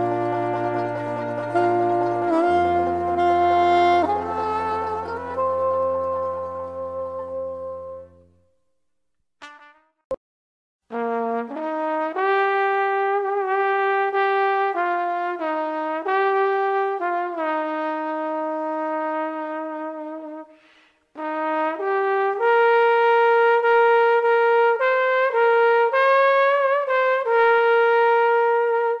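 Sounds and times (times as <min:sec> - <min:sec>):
solo trumpet melody: 0:00.0 - 0:08.6, 0:09.4 - 0:10.2, 0:10.9 - 0:29.0.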